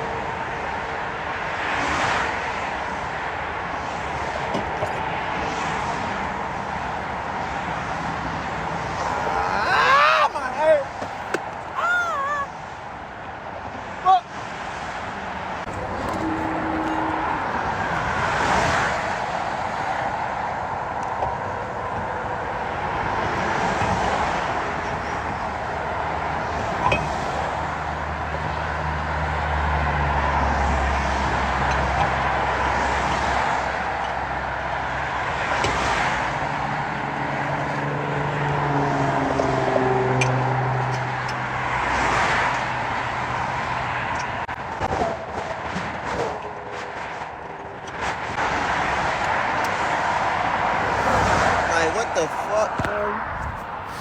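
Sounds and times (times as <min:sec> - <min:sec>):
cars and trucks whooshing past: 0:00.0 - 0:54.0
heavy vehicle engine drone: 0:02.3 - 0:45.6.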